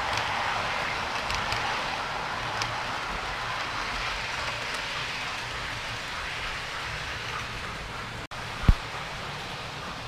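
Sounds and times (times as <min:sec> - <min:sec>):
model train wheels rumbling: 0:00.0 - 0:10.0.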